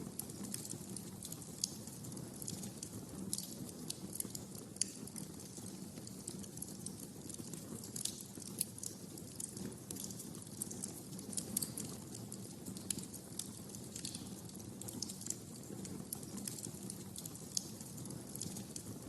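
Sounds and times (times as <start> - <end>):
wood fire crackling and popping: 0.0 - 19.0
low rumble of flames: 0.1 - 19.0.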